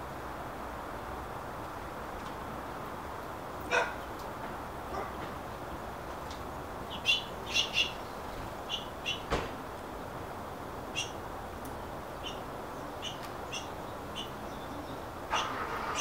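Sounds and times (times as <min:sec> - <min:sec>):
songbirds chirping: 0:00.0 - 0:16.0
steady background hiss: 0:00.0 - 0:16.0.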